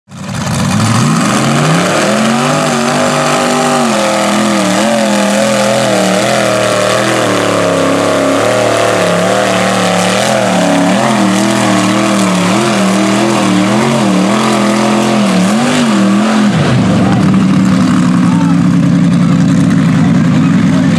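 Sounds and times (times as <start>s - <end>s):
tires churning through mud: 0.1s - 20.9s
truck engine revving: 0.1s - 20.9s.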